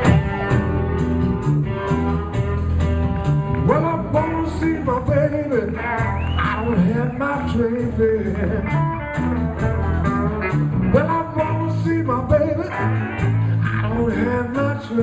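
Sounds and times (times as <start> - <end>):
blues band playing: 0.0 - 15.0
sliding bending guitar melody: 0.0 - 15.0.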